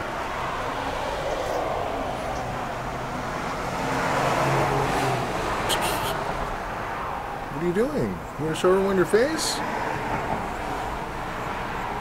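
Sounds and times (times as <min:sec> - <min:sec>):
car passing: 0:00.0 - 0:12.0
road traffic noise: 0:00.0 - 0:12.0.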